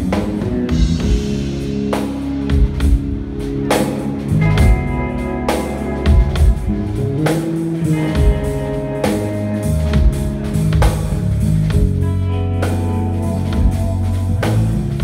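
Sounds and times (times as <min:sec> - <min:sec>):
bass notes: 0:00.0 - 0:15.0
drums: 0:00.0 - 0:15.0
electric guitar: 0:00.0 - 0:15.0.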